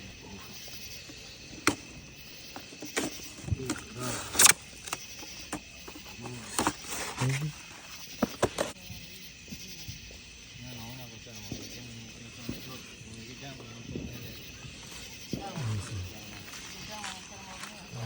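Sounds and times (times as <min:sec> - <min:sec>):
indistinct voices: 0:00.0 - 0:18.0.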